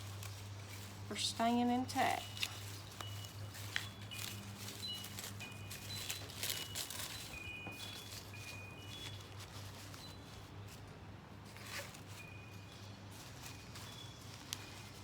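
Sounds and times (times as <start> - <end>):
newspaper crinkling: 0.0 - 15.0.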